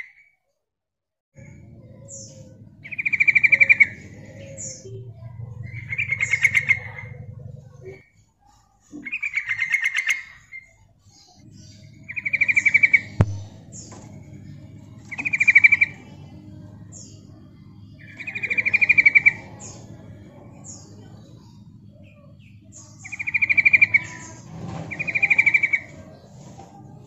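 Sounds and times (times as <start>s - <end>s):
bird chattering trills: 1.4s - 27.0s.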